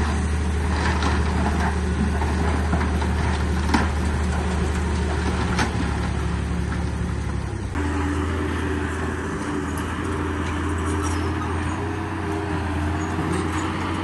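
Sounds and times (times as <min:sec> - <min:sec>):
diesel machinery engine humming: 0:00.0 - 0:14.0.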